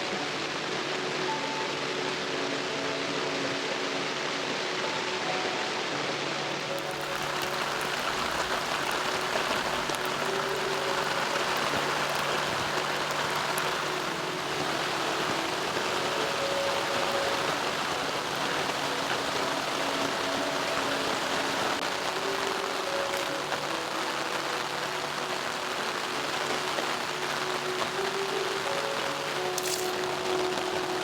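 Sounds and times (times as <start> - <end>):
rain falling in a forest: 0.0 - 31.0.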